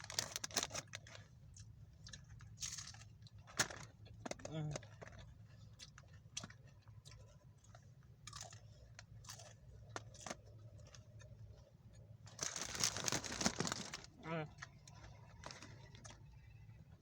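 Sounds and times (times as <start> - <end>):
person chewing crunchy taco: 0.0 - 17.0.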